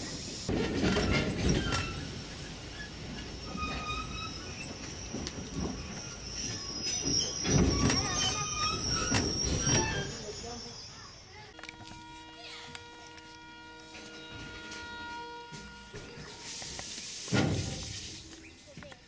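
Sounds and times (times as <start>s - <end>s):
train wheels rumbling on rails: 0.0s - 19.0s
high-pitched wheel squeal: 1.0s - 16.7s.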